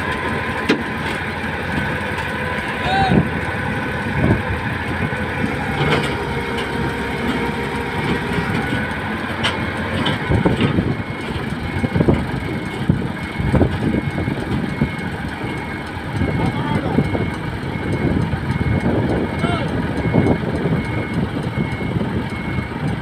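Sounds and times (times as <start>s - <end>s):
bulldozer diesel engine idling: 0.0s - 23.0s.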